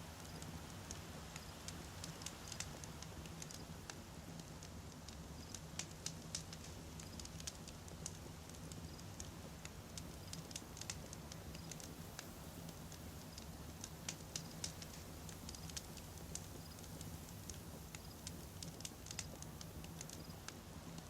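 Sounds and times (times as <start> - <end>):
burning logs crackling and popping: 0.0 - 21.0
campfire flames rushing: 0.2 - 21.0.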